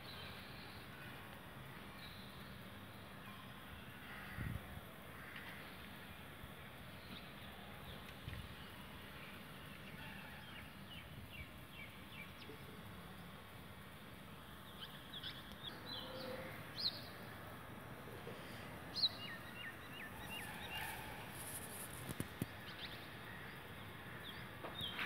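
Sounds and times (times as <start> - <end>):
faint background hiss: 0.0 - 25.0.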